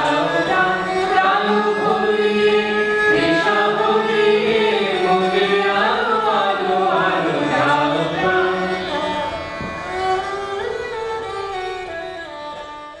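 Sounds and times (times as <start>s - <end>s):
music with long melodic lines: 0.0s - 13.0s.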